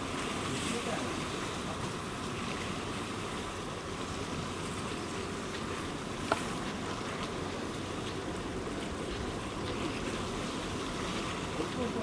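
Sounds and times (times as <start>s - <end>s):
water: 0.0s - 12.0s
wind: 0.0s - 12.0s.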